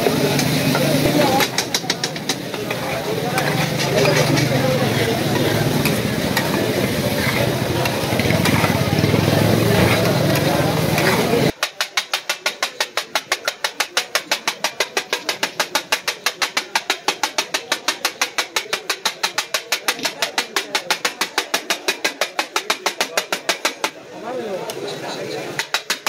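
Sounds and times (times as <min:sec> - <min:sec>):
frying oil hissing: 0:00.0 - 0:26.0
steel blades clacking on griddle: 0:00.1 - 0:24.0.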